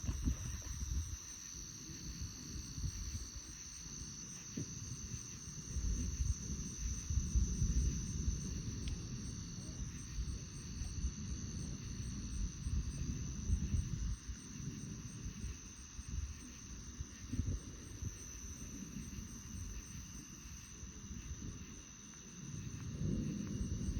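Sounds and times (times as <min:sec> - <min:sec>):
night insects trilling: 0:00.0 - 0:23.9
wind rumble on microphone: 0:00.0 - 0:23.9.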